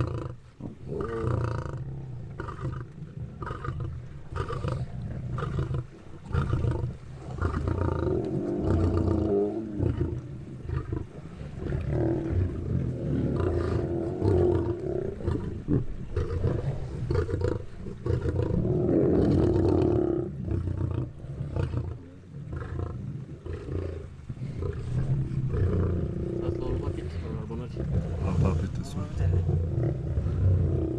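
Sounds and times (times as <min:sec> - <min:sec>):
lions growling: 0:00.0 - 0:30.9.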